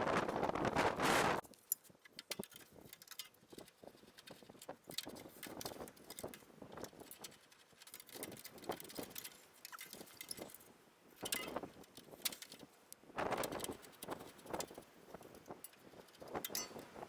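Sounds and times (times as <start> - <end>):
hand tools and metal parts clinking: 1.4 - 12.7, 13.3 - 17.0.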